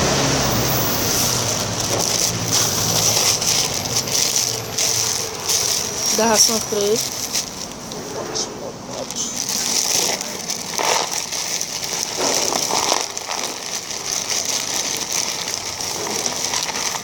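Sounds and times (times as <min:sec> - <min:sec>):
plastic bag crinkling: 0:00.1 - 0:17.0.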